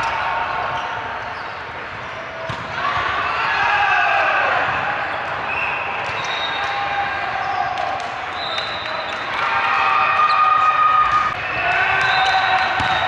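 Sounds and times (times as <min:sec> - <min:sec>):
players shouting: 0:00.0 - 0:13.0.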